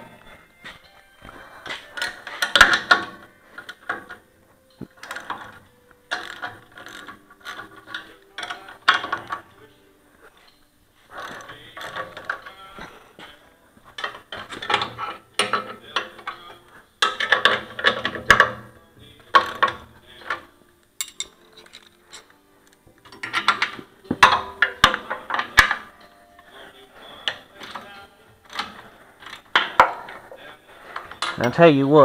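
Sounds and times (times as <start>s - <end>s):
metal tools clinking and clattering: 1.6s - 9.7s, 10.3s - 22.4s, 23.0s - 32.0s.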